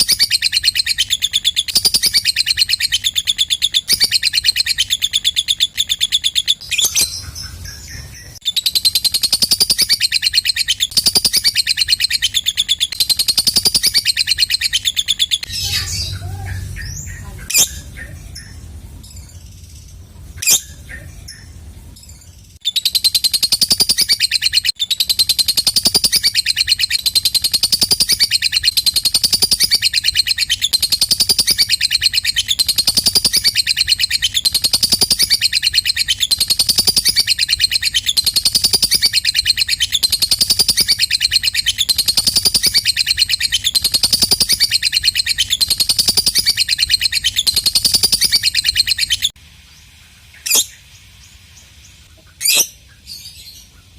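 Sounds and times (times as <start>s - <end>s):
lovebird chatter: 0.0s - 49.4s.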